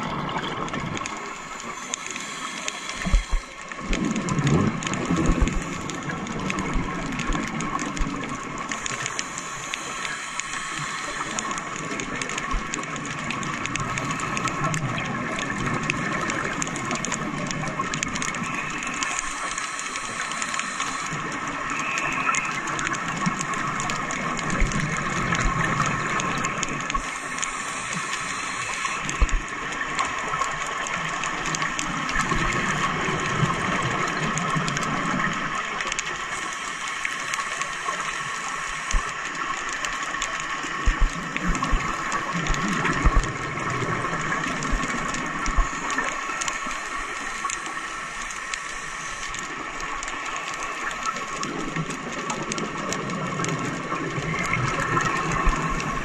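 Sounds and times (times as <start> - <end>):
underwater hiss: 0.1 - 56.0.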